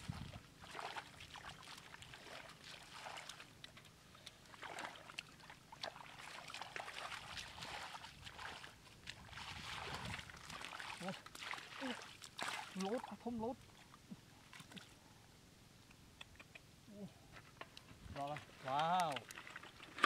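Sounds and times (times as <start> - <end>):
muddy water splashing: 0.0 - 15.1, 18.2 - 20.0.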